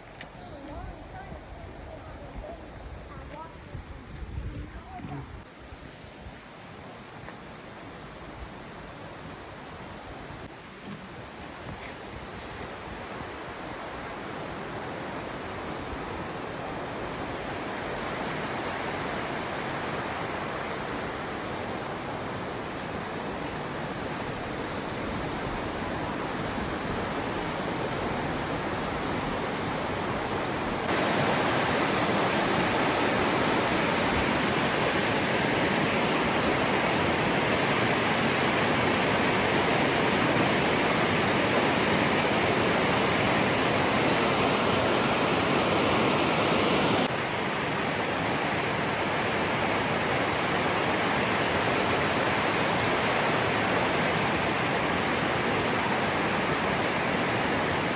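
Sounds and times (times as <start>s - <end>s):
river water rushing: 5.4s - 57.9s.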